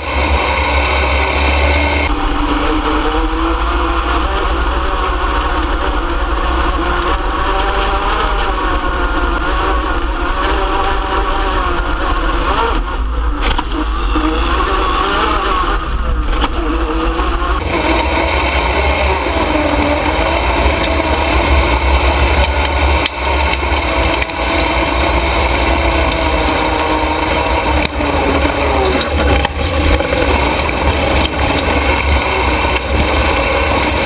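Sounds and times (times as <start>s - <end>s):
race truck engine running hard: 0.0s - 34.0s.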